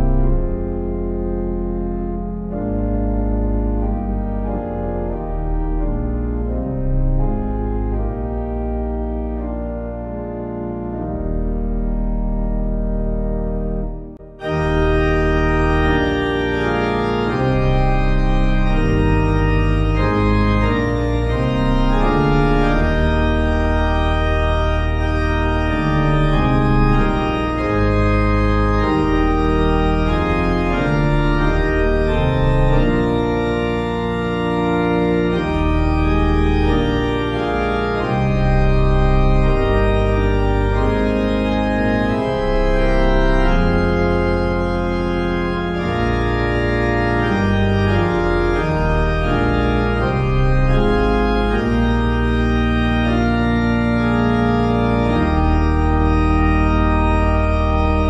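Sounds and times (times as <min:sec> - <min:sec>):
organ playing hymn chords: 0:00.0 - 0:58.0.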